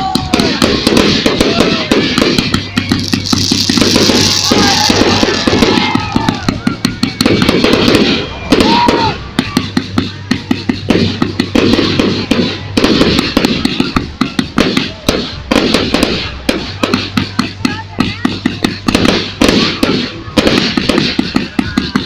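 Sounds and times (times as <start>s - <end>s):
fireworks bangs and pops: 0.0s - 22.0s
fireworks crackling: 0.0s - 22.0s.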